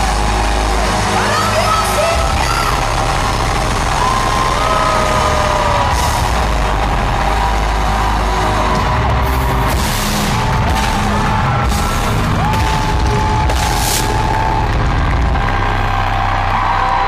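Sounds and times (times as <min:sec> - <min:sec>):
live pop music through sound system: 0:00.0 - 0:17.0.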